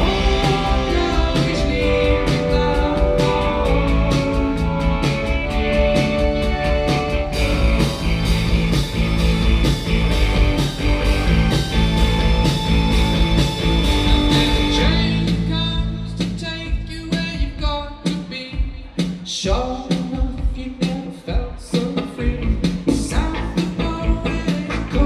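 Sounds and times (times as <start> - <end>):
live indie band playing: 0.0 - 25.0.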